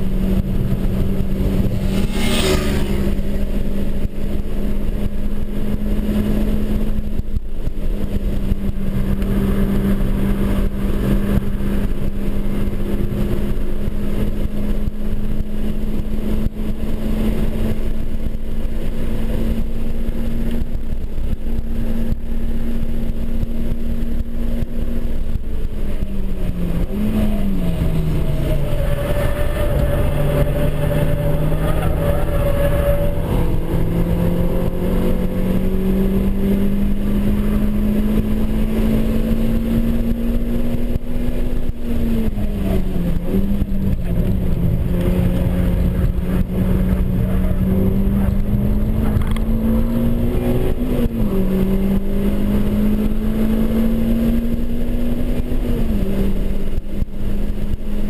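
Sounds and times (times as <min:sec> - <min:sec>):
four-cylinder engine pulling hard: 0:00.0 - 0:58.0
road and wind rumble: 0:00.0 - 0:58.0.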